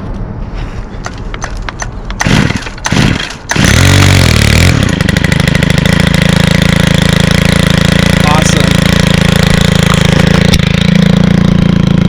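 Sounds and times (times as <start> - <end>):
starter rope pulls: 1.0 - 12.0
string trimmer engine running: 1.4 - 12.0.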